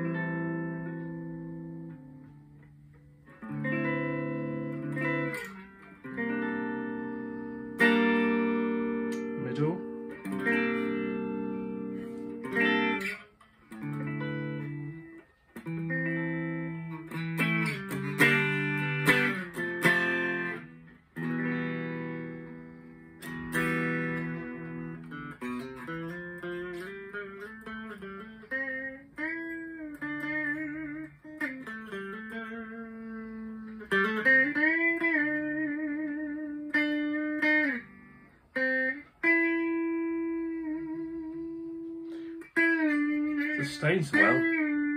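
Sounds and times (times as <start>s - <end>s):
clean electric guitar: 0.0s - 44.9s.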